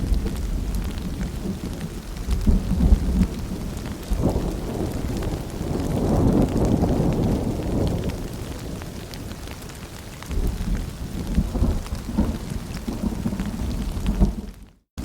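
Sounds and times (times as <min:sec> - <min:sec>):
rolling thunder: 0:00.0 - 0:09.6, 0:10.3 - 0:14.6
steady rain: 0:00.0 - 0:14.9.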